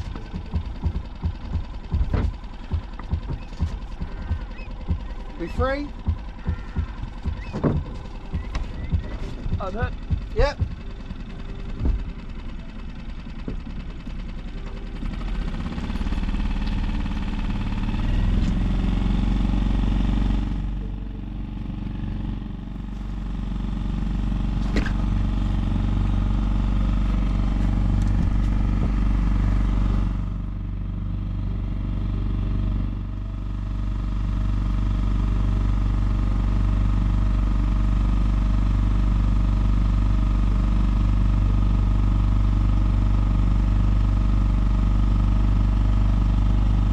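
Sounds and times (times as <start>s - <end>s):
small boat engine running: 0.0s - 46.9s.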